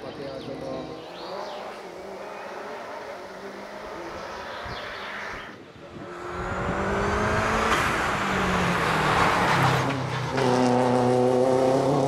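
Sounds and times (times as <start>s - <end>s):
race car engine: 0.4s - 12.0s.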